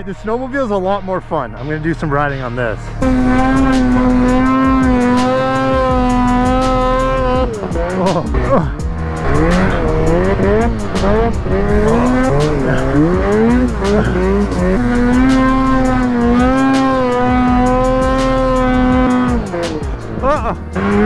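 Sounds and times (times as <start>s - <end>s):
snowmobile engine revving: 1.6s - 21.0s.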